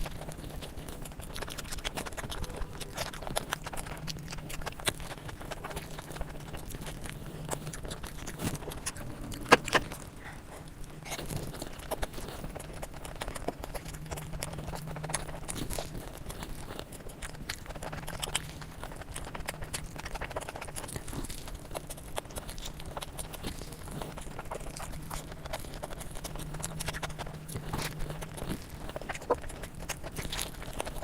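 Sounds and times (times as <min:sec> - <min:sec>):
faint low hum: 0:00.0 - 0:31.0
wet chewing and smacking: 0:00.0 - 0:31.0.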